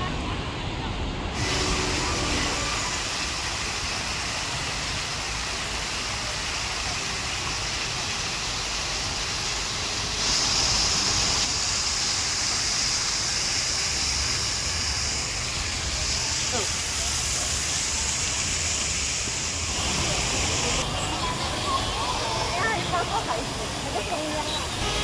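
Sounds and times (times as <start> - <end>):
fountain water splashing: 1.3 - 25.0.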